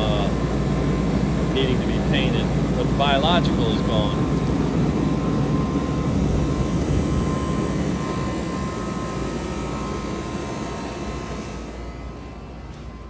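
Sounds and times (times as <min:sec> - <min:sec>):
mechanical rumble with faint whine: 0:00.0 - 0:13.0.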